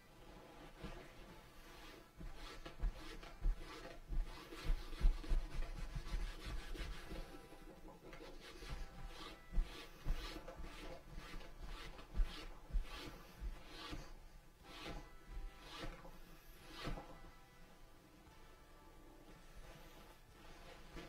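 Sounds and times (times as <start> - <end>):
cloth rubbing on leather: 0.2 - 7.5, 8.2 - 17.1, 19.3 - 21.0.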